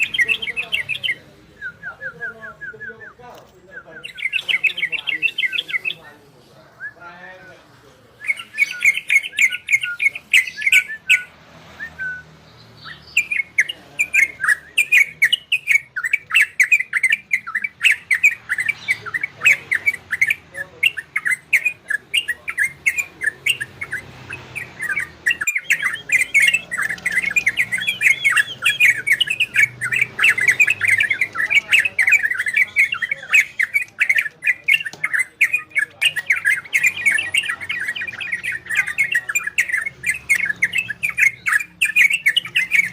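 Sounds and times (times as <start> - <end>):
songbird chattering song: 0.0 - 42.9.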